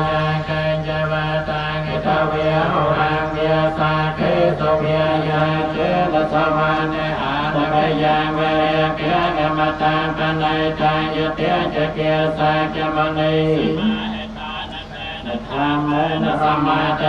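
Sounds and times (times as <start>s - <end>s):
monks chanting in unison: 0.0s - 17.0s.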